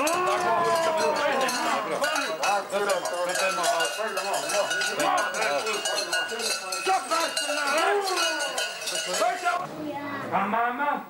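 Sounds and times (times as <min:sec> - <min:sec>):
cowbells clanging and jangling: 0:00.0 - 0:09.6.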